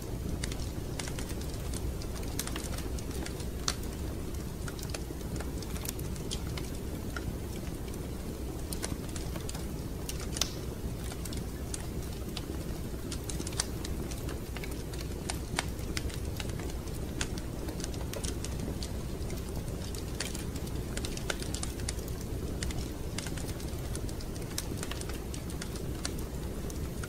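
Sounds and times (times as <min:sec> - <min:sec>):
fireplace crackling: 0:00.0 - 0:27.0.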